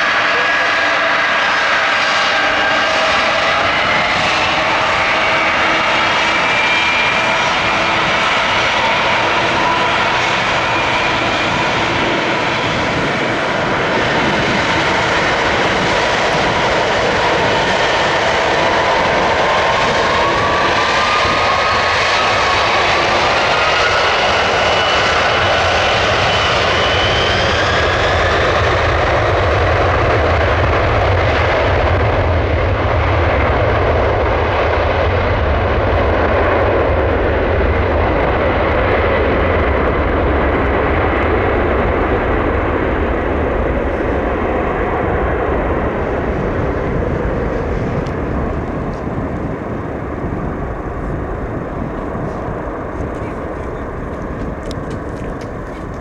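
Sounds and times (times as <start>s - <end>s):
jet engines roaring at takeoff: 0.0s - 56.0s.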